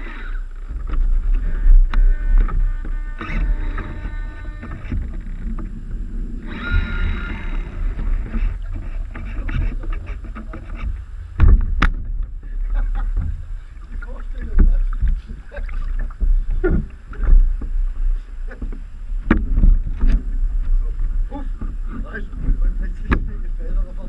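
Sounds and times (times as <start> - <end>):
water lapping against hulls: 0.0 - 24.0
wind rumble on microphone: 0.0 - 24.0.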